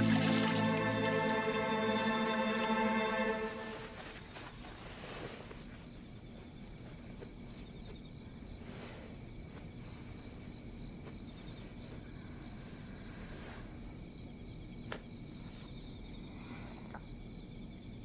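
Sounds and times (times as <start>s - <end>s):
low background hiss: 0.0s - 18.0s
cricket chirping: 0.1s - 18.0s.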